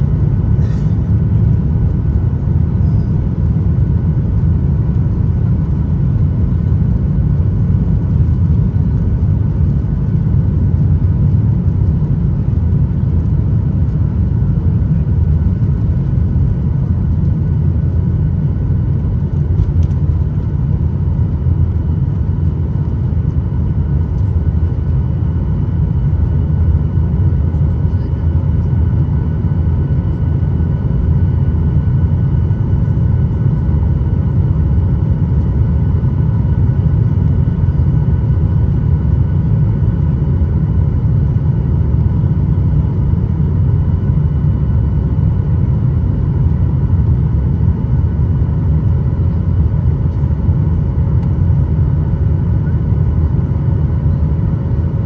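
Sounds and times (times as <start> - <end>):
faint engine whining tones: 0.0 - 55.0
jet engine rumble: 0.0 - 55.0.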